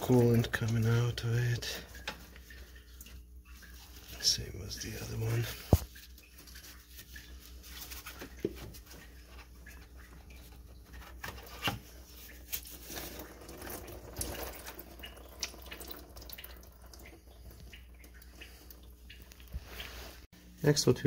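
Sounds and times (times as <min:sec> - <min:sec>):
coolant dripping and trickling: 0:00.0 - 0:20.3.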